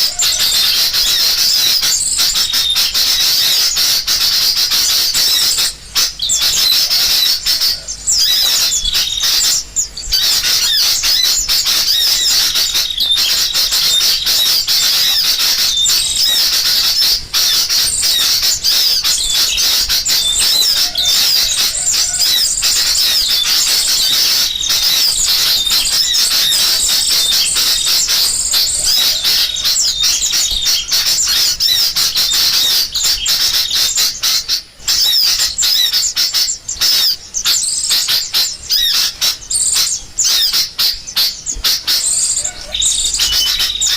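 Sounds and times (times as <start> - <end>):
bulbuls calling: 0.0 - 43.9
small birds chirping: 0.0 - 43.9.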